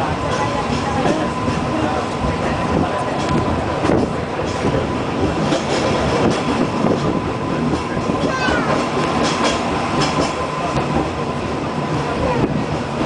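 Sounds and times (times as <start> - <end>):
tram rumble and rattle: 0.0 - 13.0.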